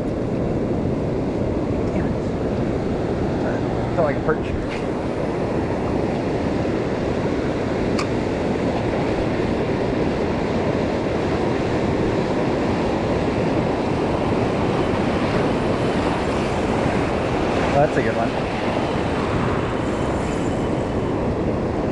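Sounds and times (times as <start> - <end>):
surf washing on beach: 0.0 - 21.9
wind buffeting microphone: 0.0 - 21.9.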